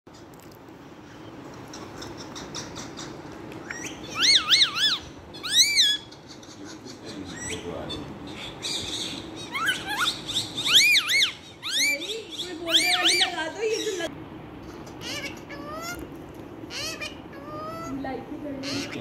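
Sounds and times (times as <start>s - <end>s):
parakeet calling: 1.2s - 19.0s.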